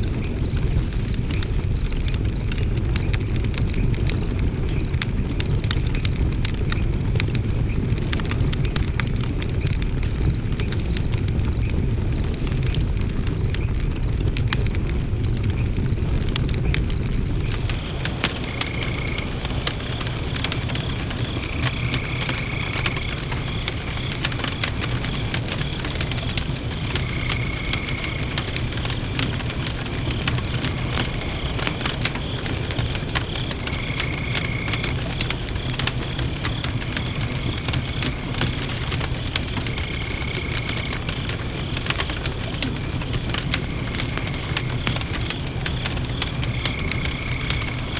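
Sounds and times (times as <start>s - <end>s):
low fire rumble: 0.0s - 47.9s
wood fire crackling and popping: 0.0s - 47.9s.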